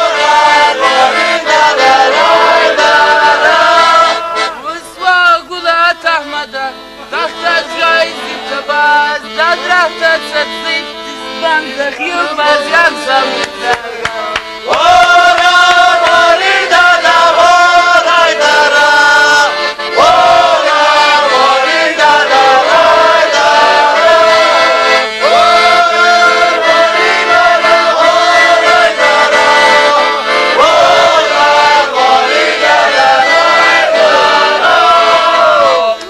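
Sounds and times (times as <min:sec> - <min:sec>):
accordion: 0:00.0 - 0:36.0
men singing folk song: 0:00.0 - 0:36.0.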